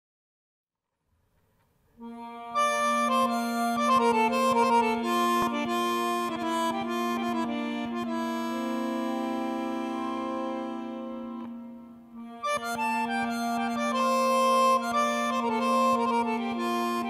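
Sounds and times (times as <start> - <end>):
instrumental music: 1.3 - 17.0.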